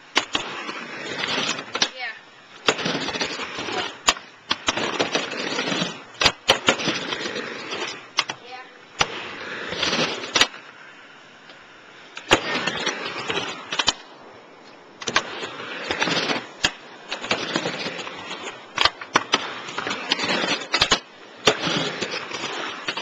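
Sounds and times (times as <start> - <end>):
skateboard wheels rolling on ramp: 0.0 - 23.0.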